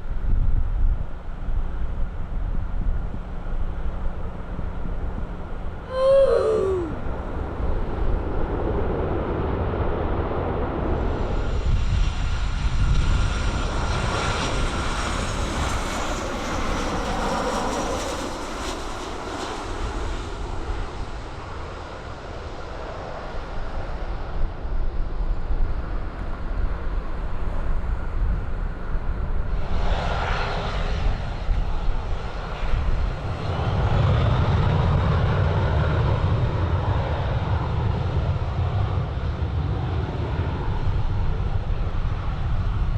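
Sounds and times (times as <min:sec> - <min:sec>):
turbine aircraft engines: 0:00.0 - 0:42.9.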